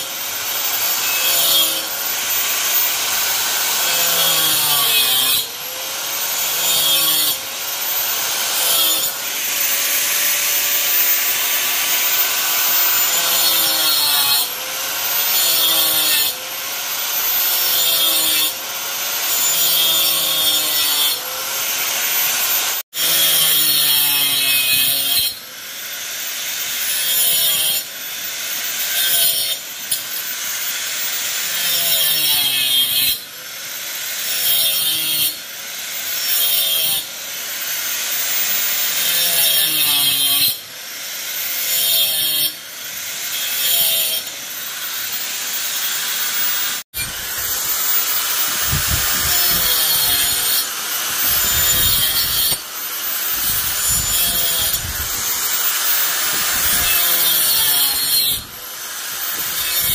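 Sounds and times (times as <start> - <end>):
angle grinder cutting wood: 0.0 - 59.9.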